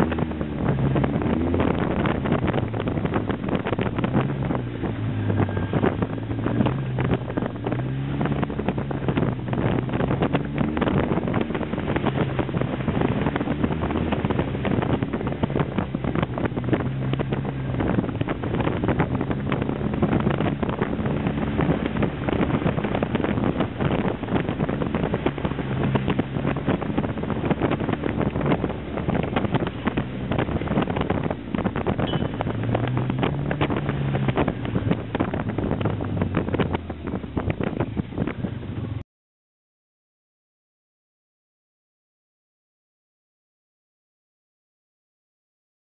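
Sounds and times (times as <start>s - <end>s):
engine revving: 0.0s - 39.0s
wind buffeting microphone: 0.0s - 39.0s.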